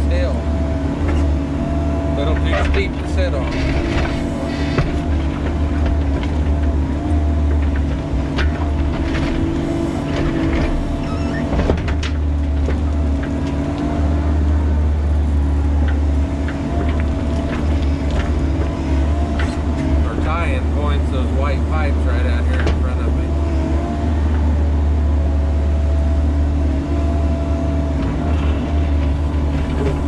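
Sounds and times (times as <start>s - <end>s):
hydraulic whine: 0.0s - 24.9s
excavator diesel engine running: 0.0s - 30.0s.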